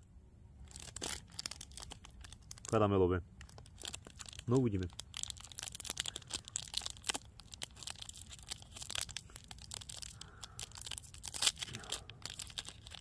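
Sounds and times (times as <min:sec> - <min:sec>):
plastic wrapper tearing and crinkling: 0:00.6 - 0:02.8, 0:03.4 - 0:13.0.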